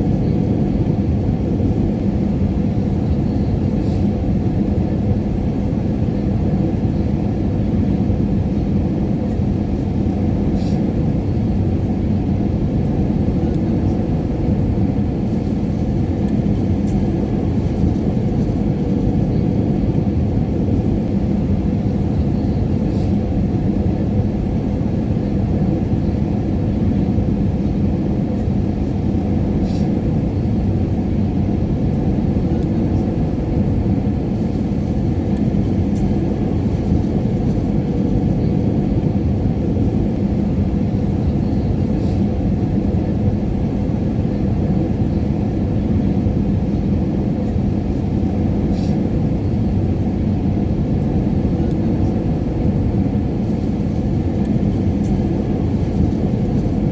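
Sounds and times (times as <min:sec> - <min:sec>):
airliner engines rumbling: 0:00.0 - 0:56.9
constant hum: 0:00.0 - 0:56.9.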